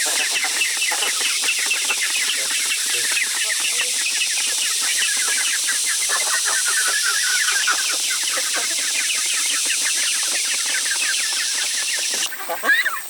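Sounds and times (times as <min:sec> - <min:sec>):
chicks peeping: 0:00.0 - 0:13.0
steady high hiss: 0:00.0 - 0:13.0.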